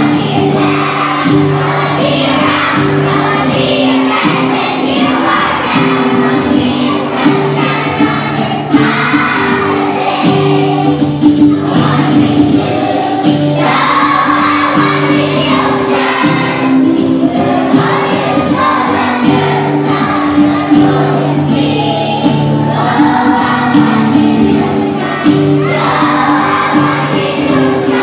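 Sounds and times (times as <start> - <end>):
children's choir singing: 0.0 - 28.0
instrumental accompaniment with beat: 0.0 - 28.0.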